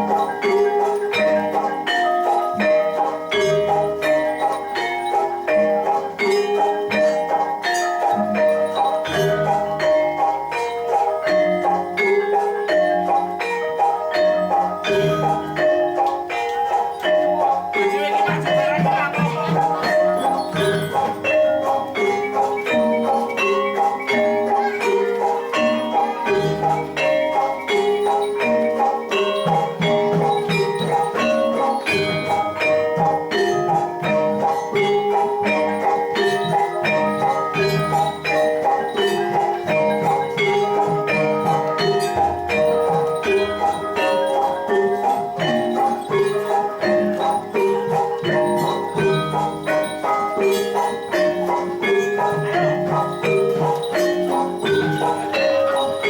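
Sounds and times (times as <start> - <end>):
gamelan metallophone melody: 0.0 - 56.0.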